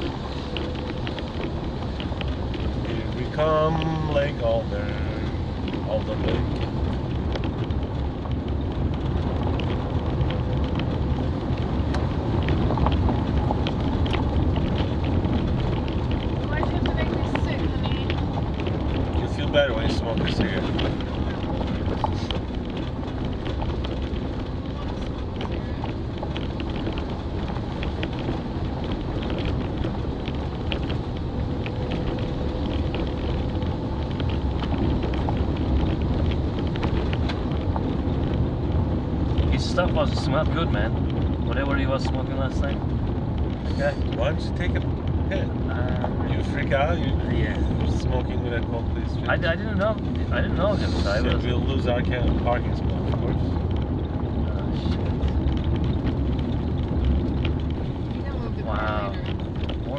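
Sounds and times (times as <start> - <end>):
gravel ticking against car: 0.0 - 59.9
tyre and road rumble: 0.0 - 59.9.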